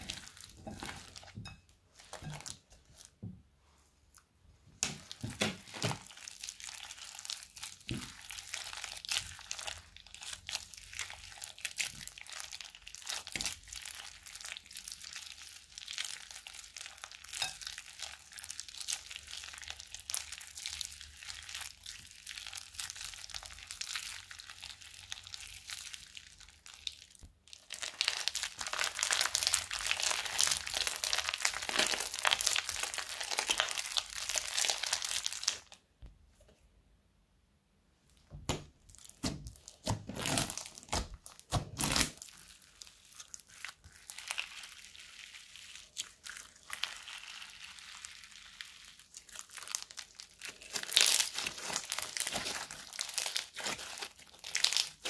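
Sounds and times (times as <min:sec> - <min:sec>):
crunchy slime crackling: 0:00.0 - 0:03.2, 0:04.8 - 0:35.9, 0:38.1 - 0:55.0.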